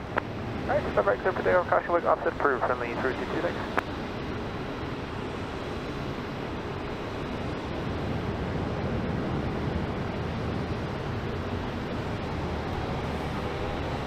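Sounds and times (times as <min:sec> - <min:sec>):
distant jet engines roaring: 0:00.0 - 0:14.0.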